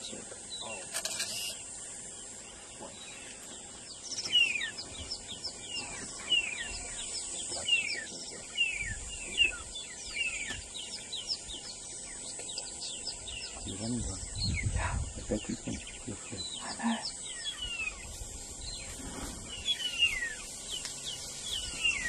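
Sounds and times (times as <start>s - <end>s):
birds chirping: 0.0s - 22.0s
steady high hiss: 0.0s - 22.0s.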